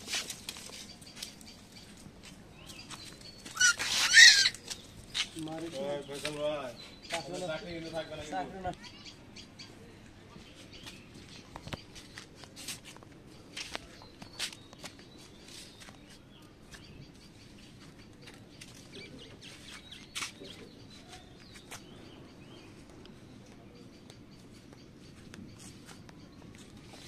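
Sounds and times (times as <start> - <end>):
low background noise: 0.0 - 27.0
small birds chirping: 0.0 - 27.0.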